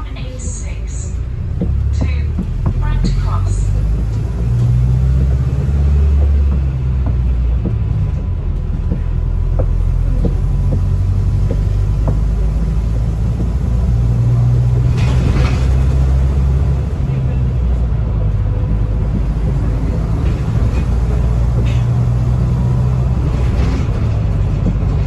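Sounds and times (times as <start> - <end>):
bus engine drone: 0.0 - 25.0
bodywork rattles: 1.4 - 25.0.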